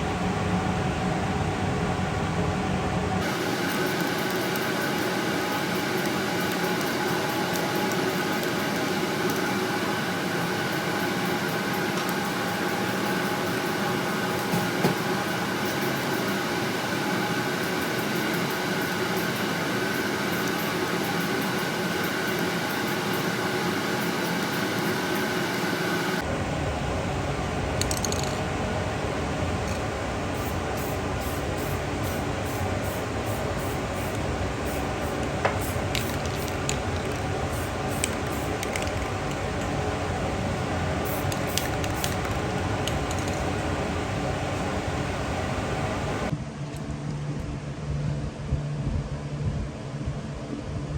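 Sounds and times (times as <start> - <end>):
low deep mechanical noise: 0.0 - 50.9
steady mechanical whirr: 0.0 - 50.9.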